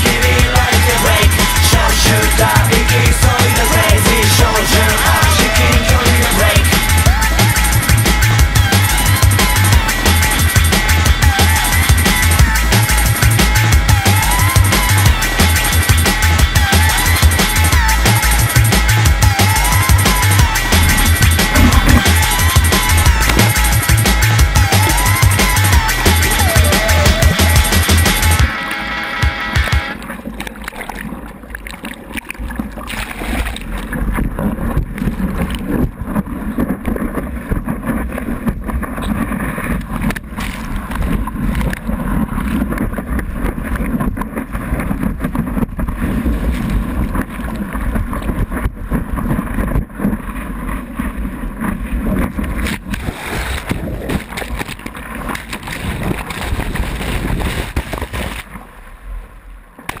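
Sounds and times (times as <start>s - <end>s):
water rushing and splashing: 0.0s - 60.0s.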